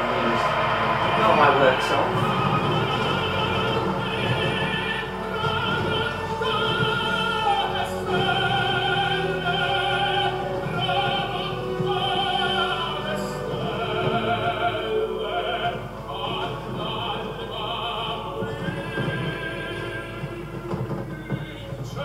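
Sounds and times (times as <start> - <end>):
operatic voice singing: 0.0 - 22.0.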